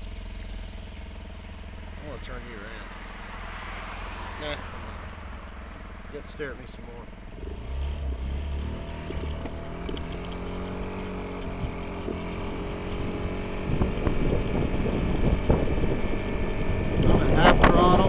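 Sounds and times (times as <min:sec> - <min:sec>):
scooter engine accelerating: 0:00.0 - 0:18.0.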